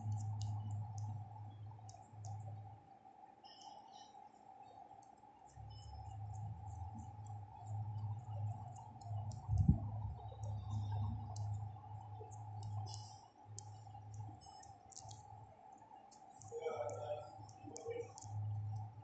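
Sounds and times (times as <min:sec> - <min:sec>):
faint rapid clicking: 0:00.0 - 0:19.0
steady low hum: 0:00.0 - 0:19.0.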